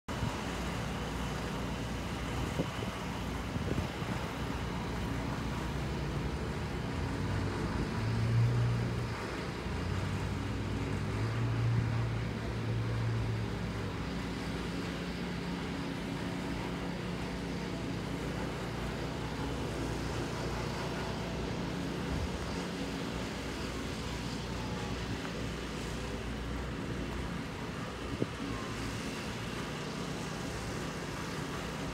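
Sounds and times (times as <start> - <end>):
deep engine drone: 0.1 - 31.9
road traffic hum: 0.1 - 31.9.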